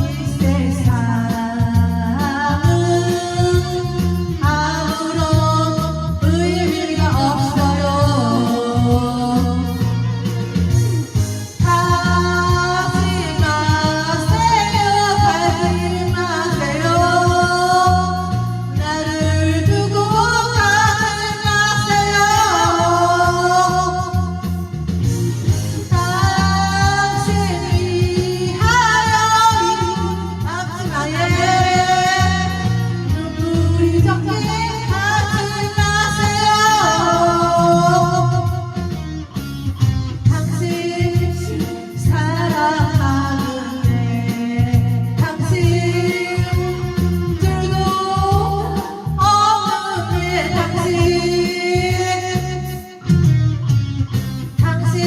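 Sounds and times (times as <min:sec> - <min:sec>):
woman singing with vibrato: 0:00.0 - 0:10.1, 0:11.4 - 0:24.7, 0:25.6 - 0:38.9, 0:40.3 - 0:53.1, 0:54.5 - 0:55.0
band with guitar and bass: 0:00.0 - 0:55.0.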